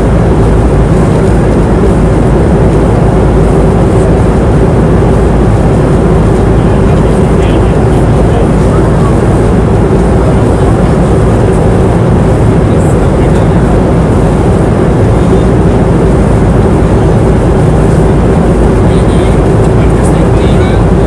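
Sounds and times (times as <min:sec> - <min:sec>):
airplane cabin noise: 0:00.0 - 0:21.0.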